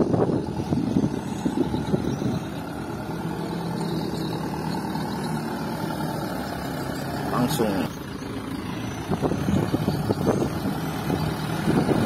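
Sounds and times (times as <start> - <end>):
dump truck diesel engine running: 0.0 - 12.0.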